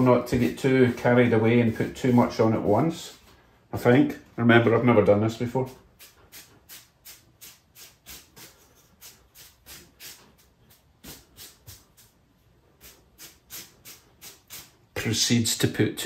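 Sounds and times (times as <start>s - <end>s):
paintbrush swishing on foam: 0.0s - 3.5s, 4.7s - 15.0s.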